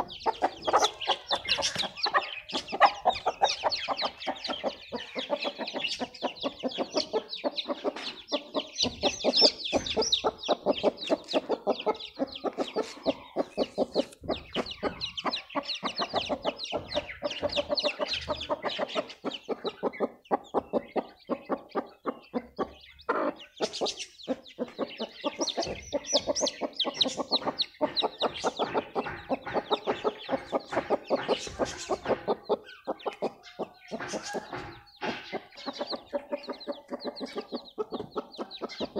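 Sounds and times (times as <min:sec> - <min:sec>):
chicks peeping: 0:00.0 - 0:38.9
hen clucking: 0:00.0 - 0:38.9.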